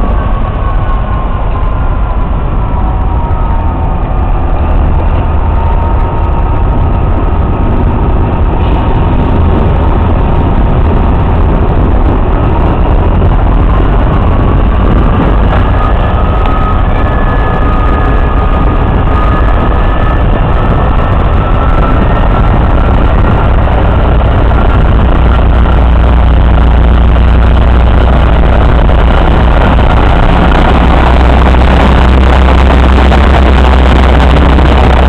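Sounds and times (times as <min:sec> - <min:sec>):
diesel locomotive idling rumble: 0:00.0 - 0:35.0
thin engine whine: 0:00.0 - 0:35.0.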